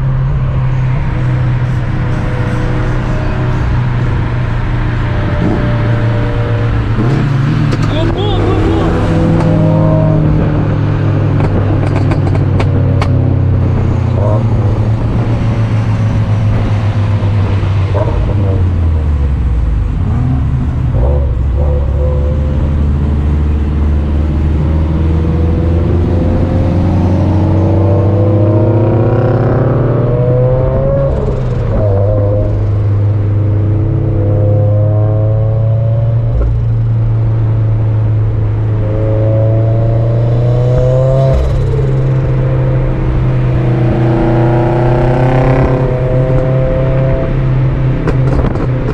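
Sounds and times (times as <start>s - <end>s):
car engine droning: 0.0s - 48.9s.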